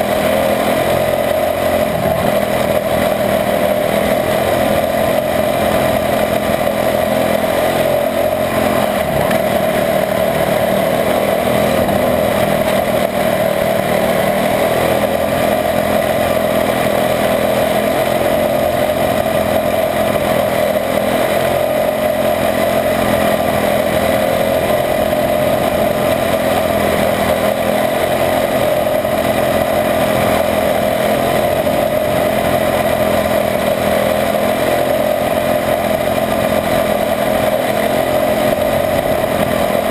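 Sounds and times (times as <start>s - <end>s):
small racing engine running: 0.0s - 39.9s.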